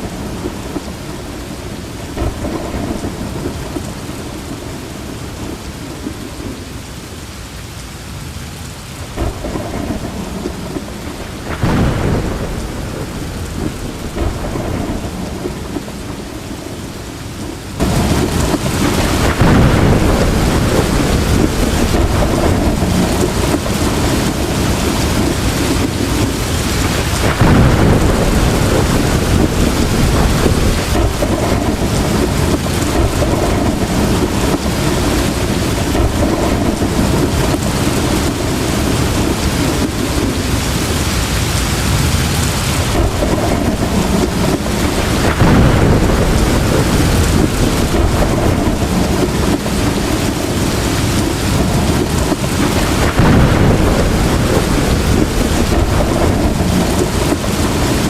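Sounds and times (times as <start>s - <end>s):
thunder rumbling: 0.0s - 7.2s, 8.7s - 58.0s
heavy rain: 0.0s - 58.0s.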